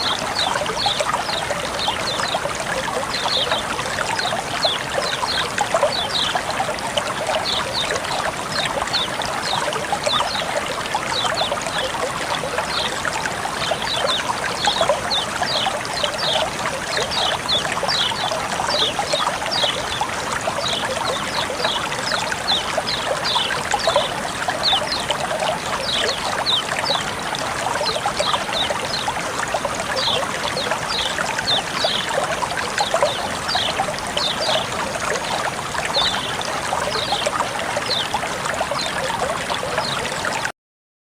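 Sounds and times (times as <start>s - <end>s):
small water splashes and plinks: 0.0s - 40.5s
water flowing and trickling: 0.0s - 40.5s.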